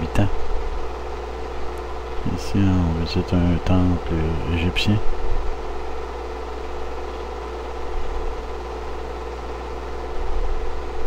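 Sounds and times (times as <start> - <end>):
film projector humming: 0.0 - 11.0.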